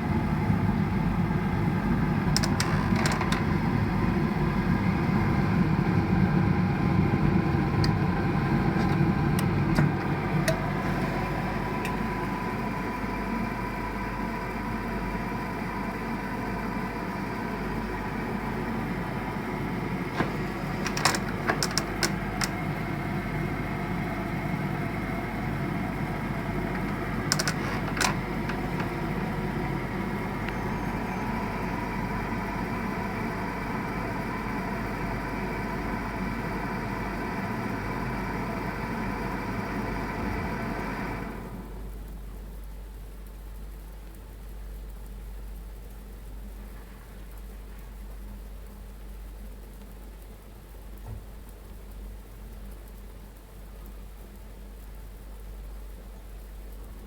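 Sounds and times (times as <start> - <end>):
gas boiler humming: 0.0 - 57.0.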